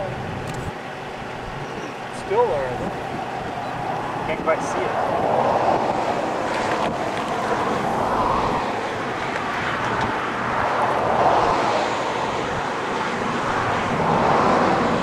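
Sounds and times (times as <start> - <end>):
wind on microphone: 1.5 - 15.0.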